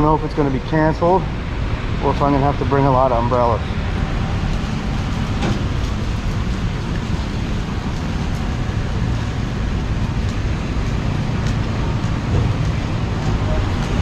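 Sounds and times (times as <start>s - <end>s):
rain: 0.0s - 14.0s
traffic rumble: 0.0s - 14.0s.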